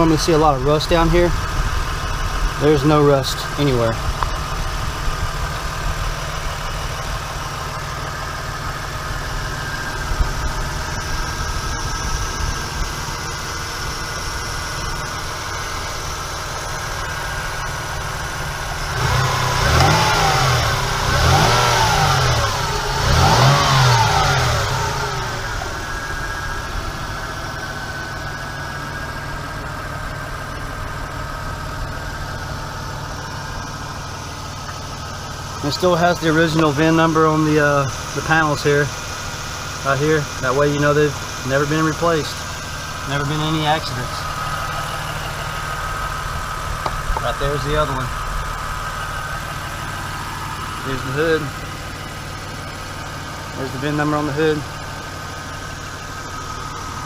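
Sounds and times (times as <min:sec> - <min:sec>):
truck engine idling and revving: 0:00.0 - 0:57.0.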